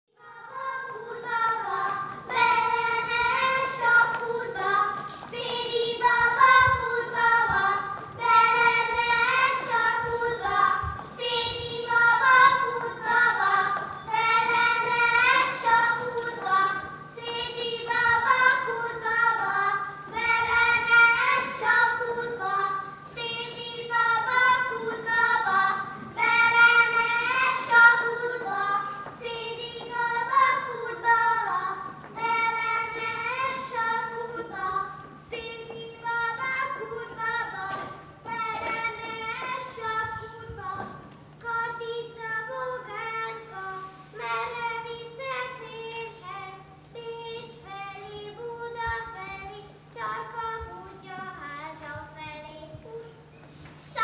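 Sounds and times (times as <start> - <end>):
steady low hum: 0.1 - 54.0
children singing: 0.2 - 46.2.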